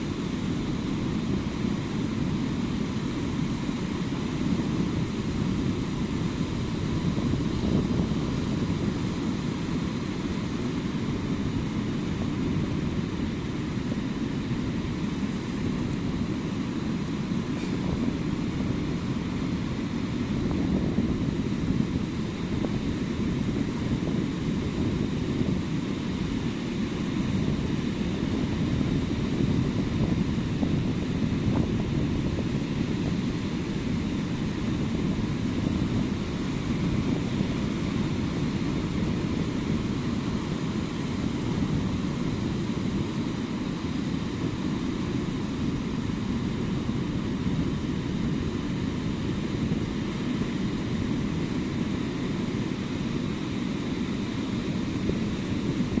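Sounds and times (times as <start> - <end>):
sea waves breaking on beach: 0.0 - 56.0.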